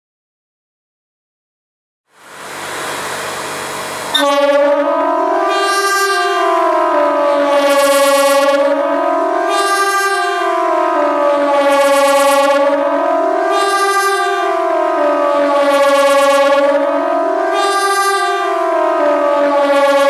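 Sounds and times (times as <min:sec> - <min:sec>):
electronic siren wailing: 0:02.8 - 0:20.0.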